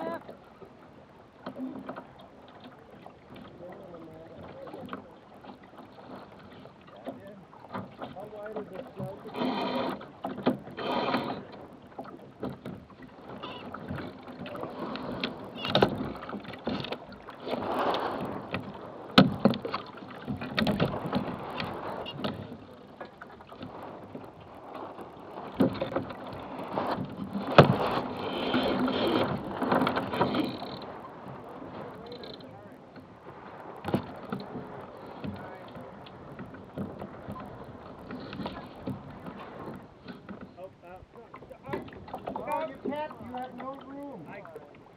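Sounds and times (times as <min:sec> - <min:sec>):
boat rigging knocks and rattles: 0:00.0 - 0:44.9
water lapping against hull: 0:00.0 - 0:44.9.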